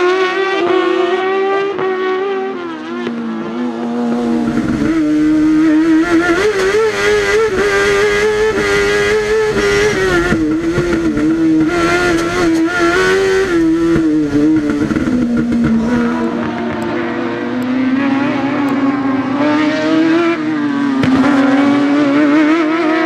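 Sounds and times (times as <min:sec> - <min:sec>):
race car engine running hard: 0:00.3 - 0:23.0.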